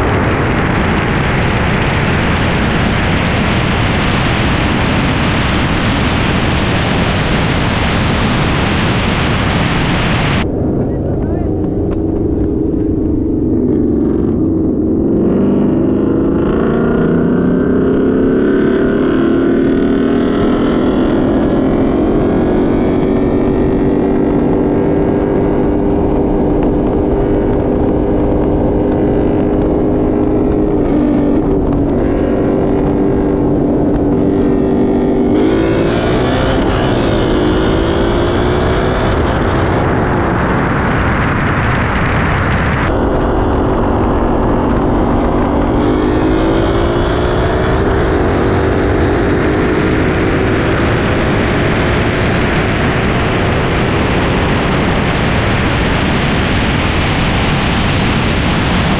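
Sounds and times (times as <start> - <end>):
car exhaust at speed: 0.0 - 58.9
rushing wind: 0.0 - 58.9.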